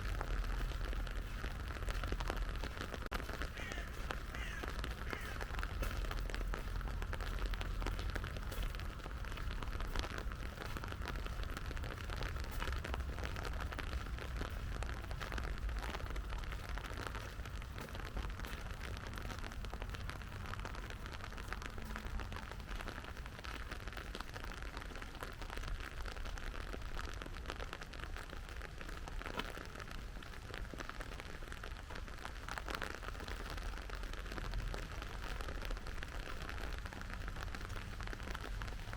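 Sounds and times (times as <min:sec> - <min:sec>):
rain drops ticking: 0:00.0 - 0:38.9.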